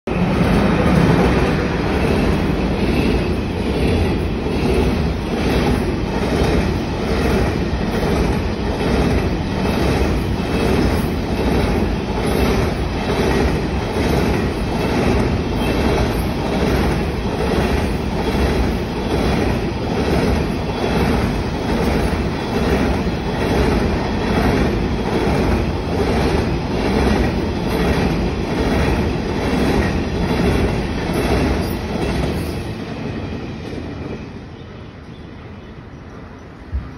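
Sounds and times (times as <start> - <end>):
freight train rolling past: 0.1 - 36.9.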